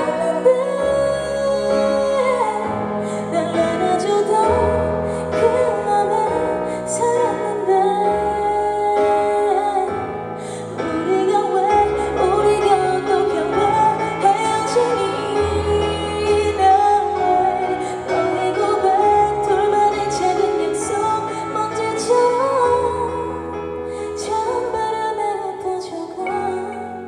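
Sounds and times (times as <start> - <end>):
woman singing a pop ballad: 0.0 - 27.0.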